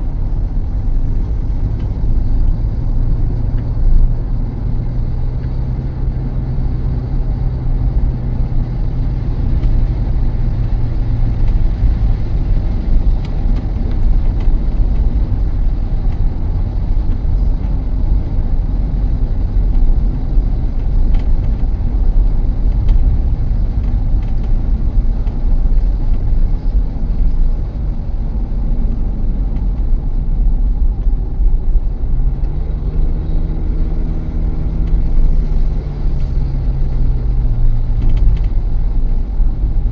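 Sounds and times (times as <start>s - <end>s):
engine hum rising in pitch: 0.0s - 39.9s
road and engine rumble: 0.0s - 39.9s.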